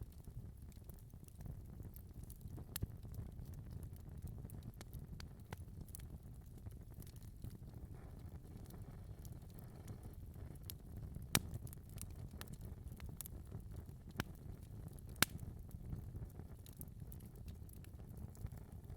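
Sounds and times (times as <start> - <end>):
low rumble of burning: 0.0 - 18.9
wood fire popping: 0.0 - 18.9.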